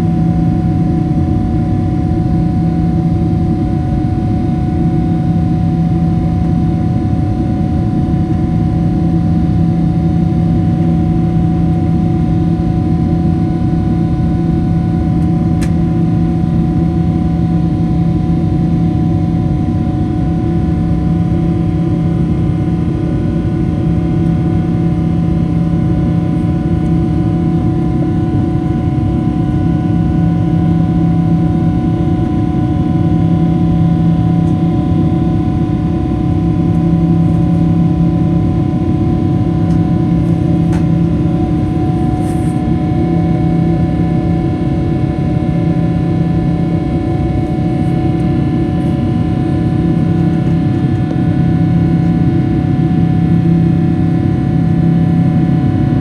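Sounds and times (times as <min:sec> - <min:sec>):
constant hum tones: 0:00.0 - 0:56.0
jet engine and airflow drone: 0:00.0 - 0:56.0.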